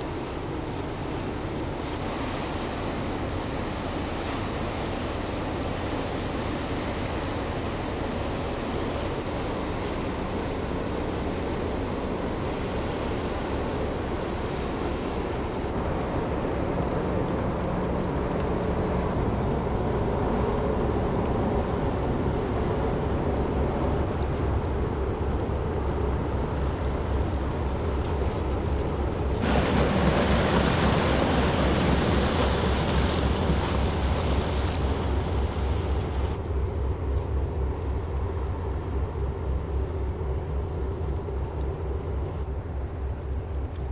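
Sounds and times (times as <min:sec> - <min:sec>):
bow wave rushing through water: 0:00.0 - 0:43.7
ship engine drone: 0:00.0 - 0:43.9.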